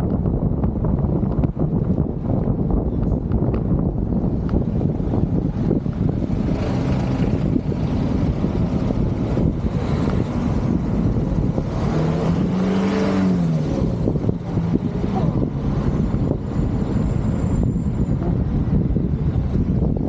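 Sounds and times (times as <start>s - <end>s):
vehicle engine running: 0.1s - 20.0s.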